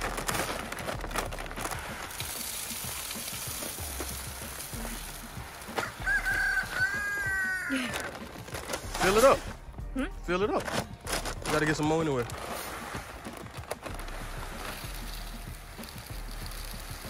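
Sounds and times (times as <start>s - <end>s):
grain pouring into feeder: 0.0s - 9.5s, 11.5s - 17.0s.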